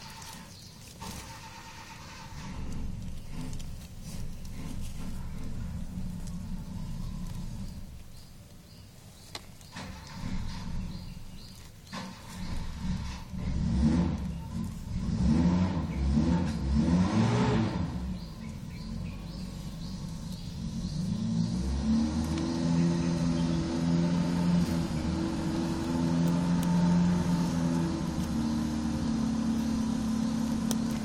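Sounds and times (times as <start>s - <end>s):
vehicle engine revving: 0.0s - 8.1s, 9.7s - 31.0s.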